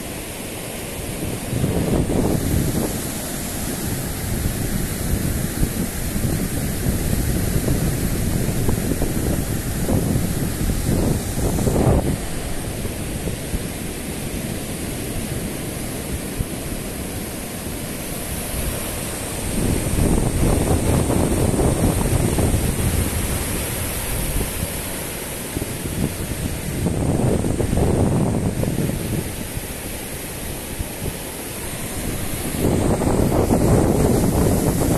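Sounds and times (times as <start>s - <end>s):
ocean surf breaking: 0.0s - 34.9s
wind buffeting microphone: 1.1s - 34.9s.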